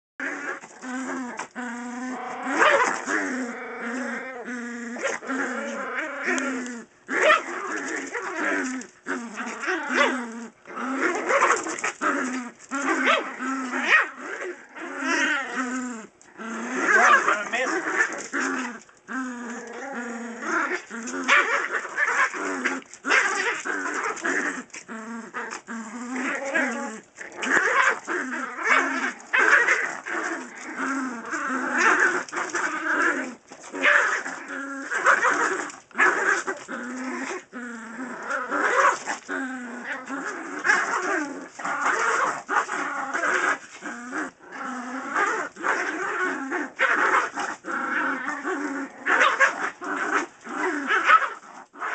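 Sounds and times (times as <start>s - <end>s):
small dogs growling in play: 0.2s - 51.9s.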